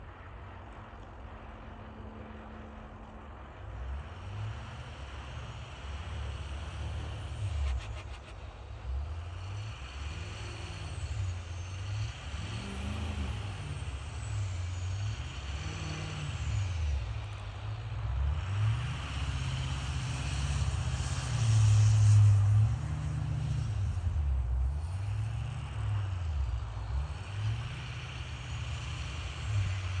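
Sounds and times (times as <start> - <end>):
diesel engine revving: 3.7 - 30.0.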